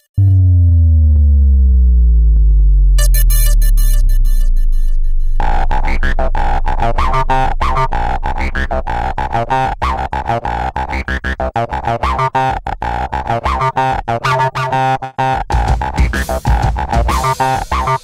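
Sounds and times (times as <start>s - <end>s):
electronic synthesizer music: 0.0s - 18.0s
fast chopped-up beat: 3.0s - 18.0s.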